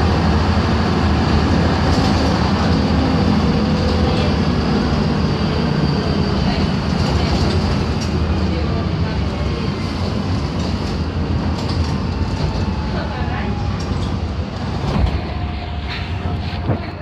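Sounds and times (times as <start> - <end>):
bus engine and road drone: 0.0 - 17.0.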